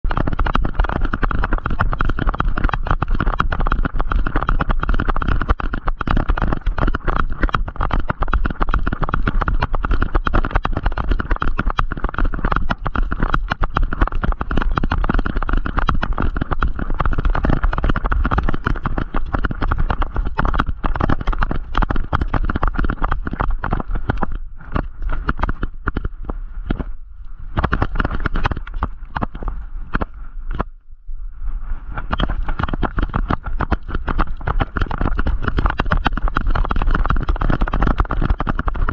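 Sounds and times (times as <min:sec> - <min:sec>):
camera knocking against harness: 0:00.1 - 0:26.1, 0:27.6 - 0:30.7, 0:32.1 - 0:38.9.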